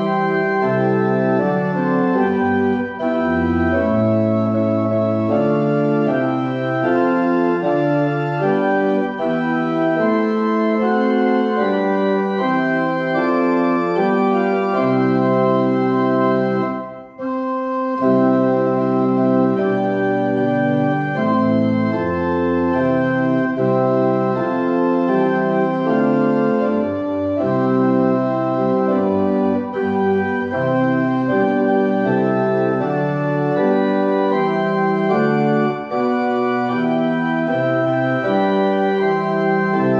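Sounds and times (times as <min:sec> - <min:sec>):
church organ playing hymn: 0:00.0 - 0:39.9.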